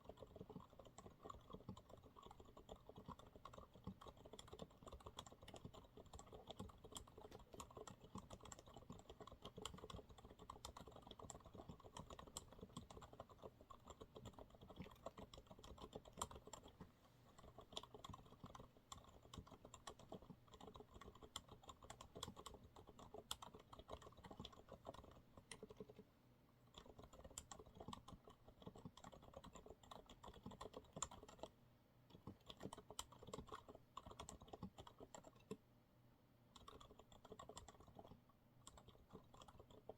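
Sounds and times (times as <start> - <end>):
soft typing on mechanical keyboard: 0.0 - 35.6, 36.5 - 39.9.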